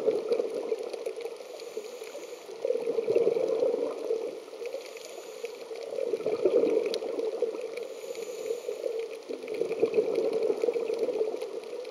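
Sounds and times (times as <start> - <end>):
muffled underwater bubbling: 0.0 - 11.9.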